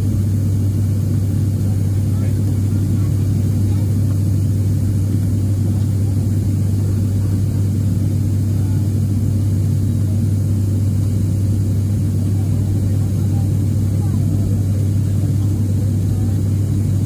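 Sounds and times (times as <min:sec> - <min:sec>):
propeller deep hum: 0:00.0 - 0:17.0.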